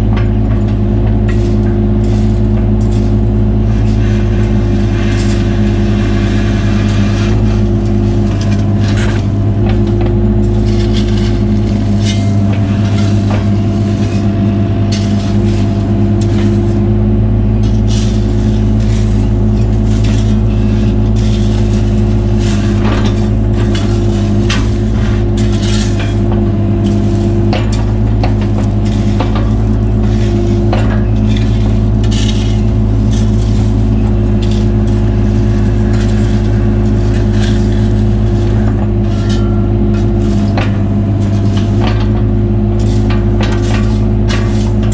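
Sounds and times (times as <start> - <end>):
excavator diesel engine running: 0.0 - 44.9
metal and stone clanks and scrapes: 0.0 - 44.9.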